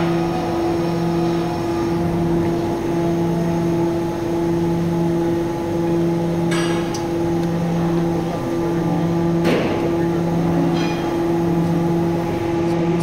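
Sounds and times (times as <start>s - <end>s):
heavy machinery humming: 0.0s - 13.0s.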